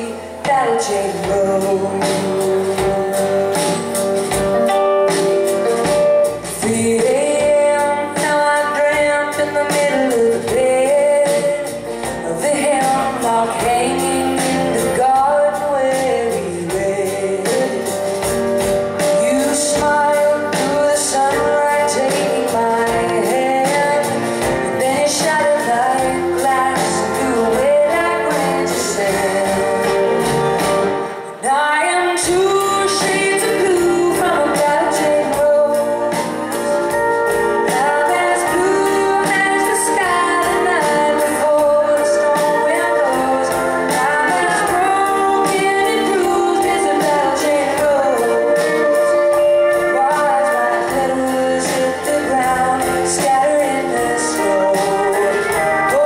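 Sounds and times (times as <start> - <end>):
woman singing: 0.0 - 4.5, 5.1 - 56.0
live country-rock band: 0.0 - 56.0.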